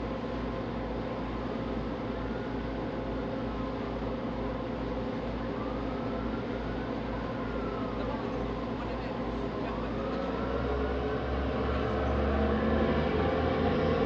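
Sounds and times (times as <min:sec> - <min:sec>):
boat diesel engines droning: 0:00.0 - 0:14.0.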